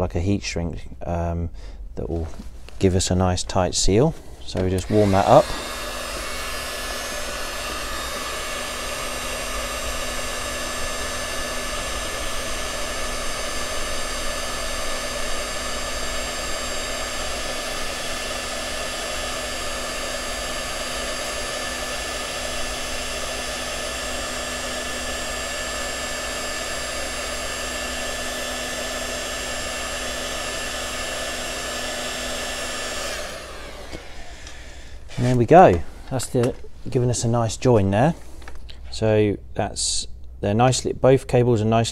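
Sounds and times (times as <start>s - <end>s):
heat gun fan whine: 3.5s - 41.9s.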